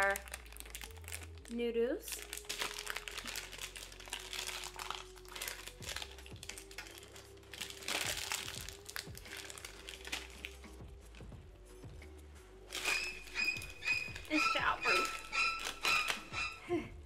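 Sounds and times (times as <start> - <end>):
plastic bag crinkling: 0.0 - 10.7, 12.7 - 16.6.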